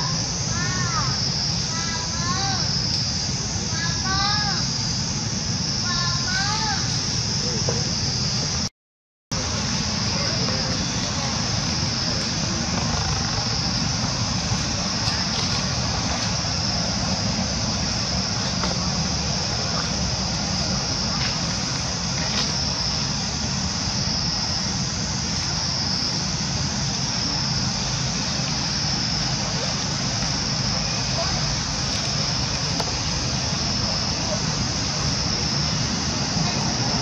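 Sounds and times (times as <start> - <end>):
high-pitched hiss: 0.0 - 8.7, 9.4 - 37.0.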